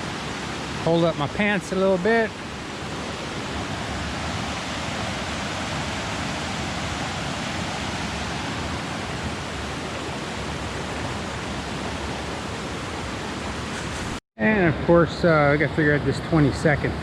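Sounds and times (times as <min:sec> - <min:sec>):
creek water rushing: 0:00.0 - 0:14.2.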